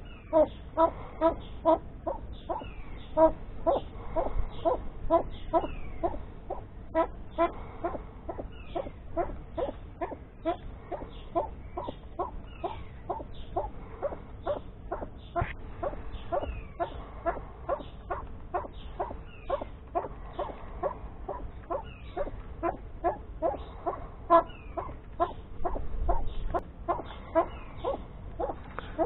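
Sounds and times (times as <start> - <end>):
bird calling: 0.0 - 29.0.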